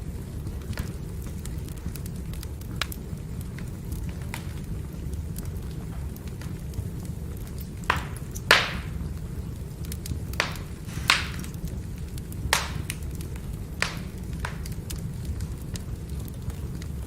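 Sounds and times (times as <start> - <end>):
firewood crackling and popping: 0.0 - 17.0
low fire rumble: 0.0 - 17.0.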